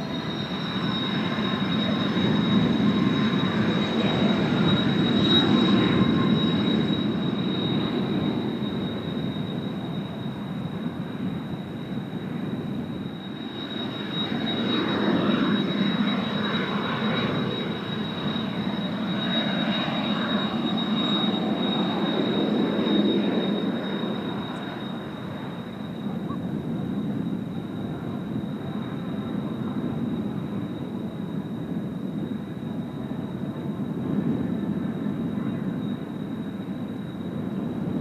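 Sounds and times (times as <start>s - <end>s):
jet aircraft flying overhead: 0.0s - 38.0s.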